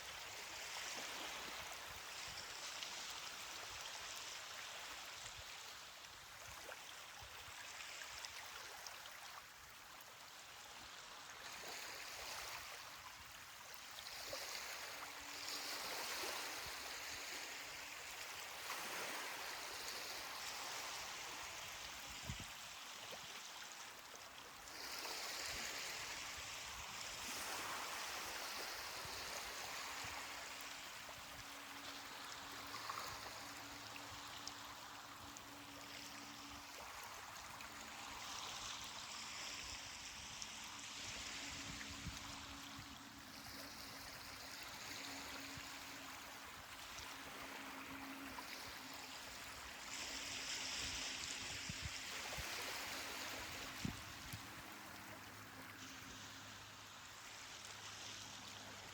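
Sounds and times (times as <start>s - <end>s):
small waves washing on beach: 0.0s - 58.9s.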